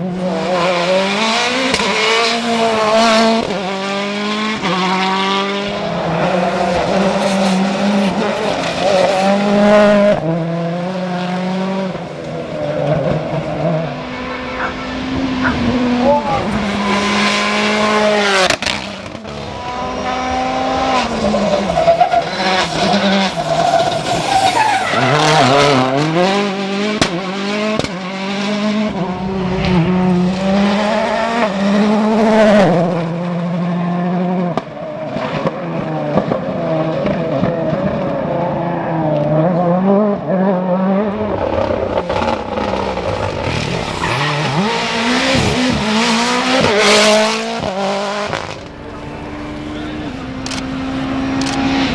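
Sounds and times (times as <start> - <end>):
rally cars engines revving: 0.0 - 51.9.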